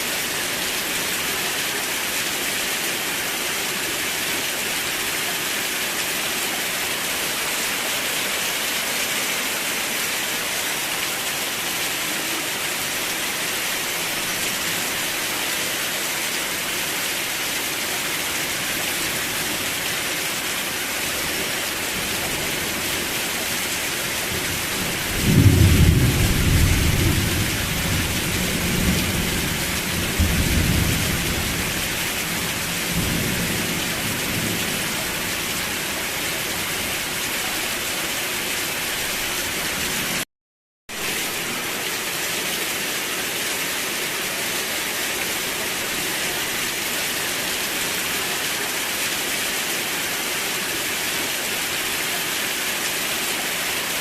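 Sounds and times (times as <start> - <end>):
steady rain: 0.0 - 40.3, 40.9 - 54.0.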